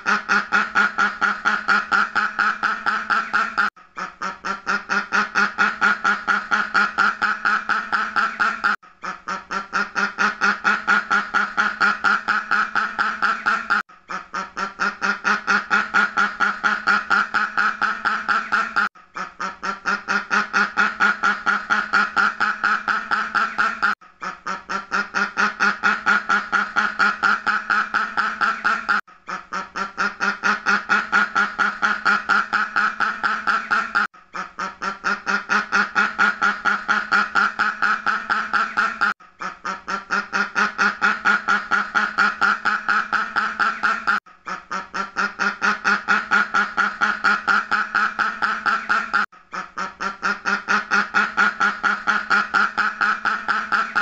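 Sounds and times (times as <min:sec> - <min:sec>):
duck quacking: 0:00.0 - 0:54.0.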